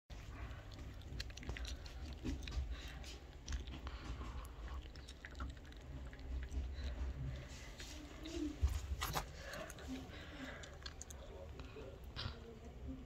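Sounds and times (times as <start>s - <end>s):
puppy chewing dry kibble: 0.1s - 12.5s.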